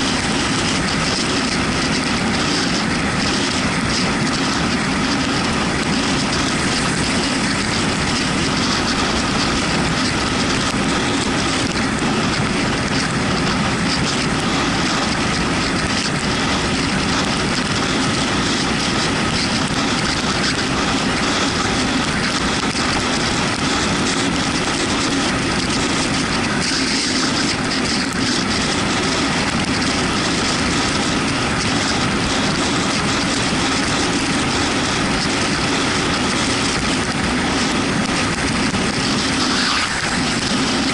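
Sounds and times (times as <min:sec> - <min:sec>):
motorcycle engine drone: 0:00.0 - 0:40.9
tyres on wet road: 0:00.0 - 0:40.9
wind rush: 0:00.0 - 0:40.9.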